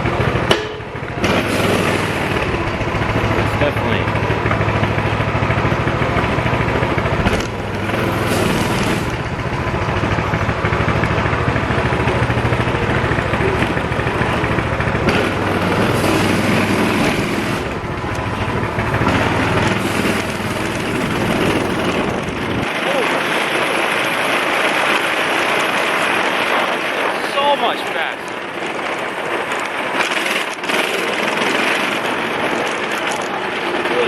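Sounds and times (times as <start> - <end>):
minibike engine running: 0.0 - 34.0.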